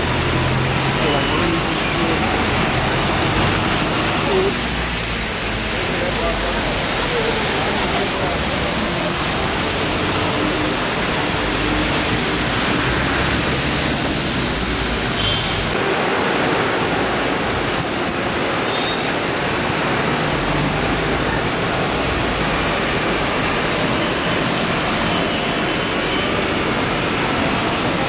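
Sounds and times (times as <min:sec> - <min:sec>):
tyres swishing on wet road: 0:00.0 - 0:28.0.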